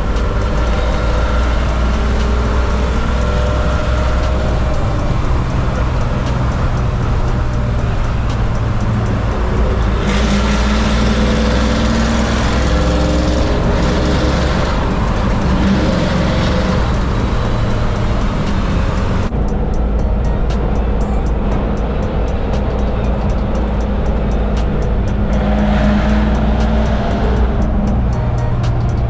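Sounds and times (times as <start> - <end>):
car engine driving: 0.0 - 29.0.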